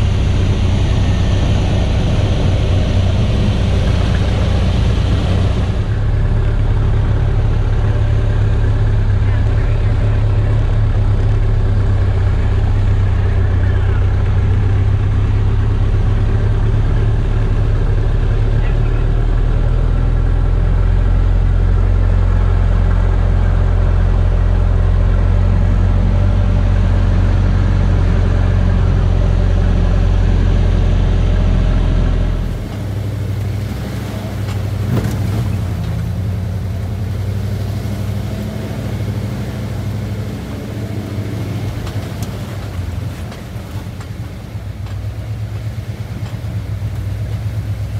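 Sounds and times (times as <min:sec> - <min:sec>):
car engine droning: 0:00.0 - 0:47.9.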